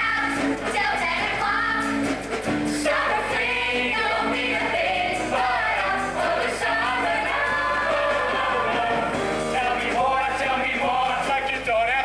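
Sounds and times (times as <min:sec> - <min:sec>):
chorus singing with accompaniment: 0:00.0 - 0:11.6.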